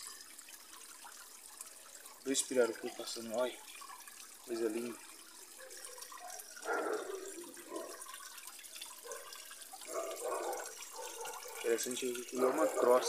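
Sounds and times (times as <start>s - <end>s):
water trickling into pond: 0.0s - 13.0s.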